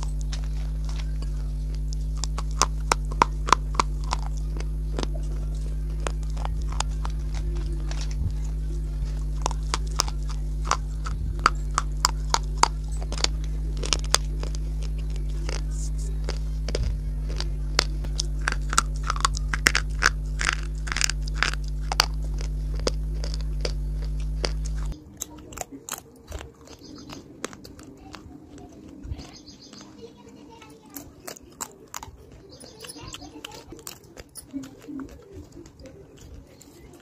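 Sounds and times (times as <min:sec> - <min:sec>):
crunchy chewing of clay: 0:00.0 - 0:37.0
electrical hum: 0:00.0 - 0:37.0.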